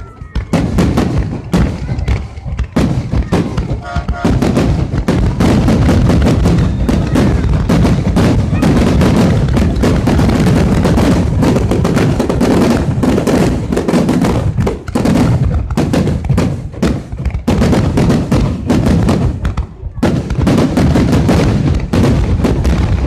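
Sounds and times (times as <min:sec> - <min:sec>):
firework explosions: 0:00.0 - 0:23.0.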